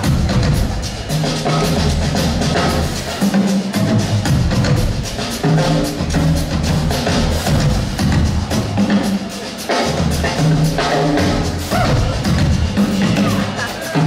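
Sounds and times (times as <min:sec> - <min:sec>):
drum duet: 0:00.0 - 0:14.0.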